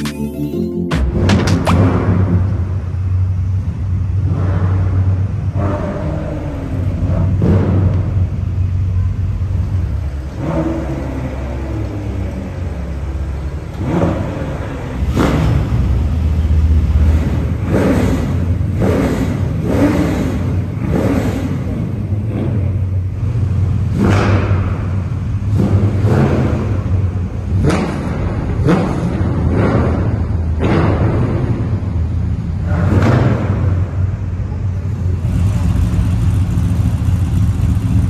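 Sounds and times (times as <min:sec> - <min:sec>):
car engines revving in hall: 0:00.0 - 0:38.0.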